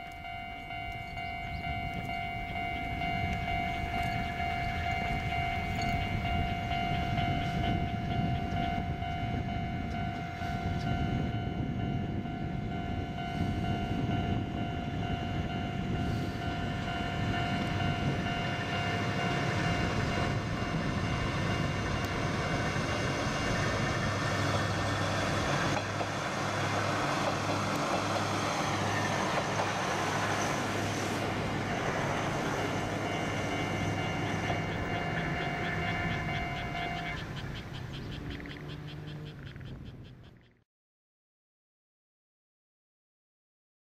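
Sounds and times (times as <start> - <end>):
diesel railcar engine drone: 0.0 - 40.5.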